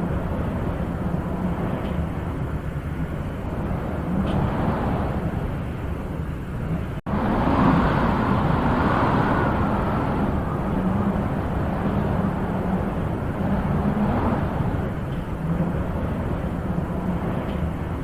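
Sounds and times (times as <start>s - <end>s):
wind gusting: 0.0s - 18.0s.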